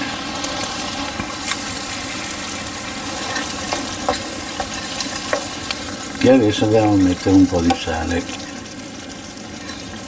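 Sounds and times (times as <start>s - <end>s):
tomatoes sizzling in a frying pan: 0.0s - 10.0s.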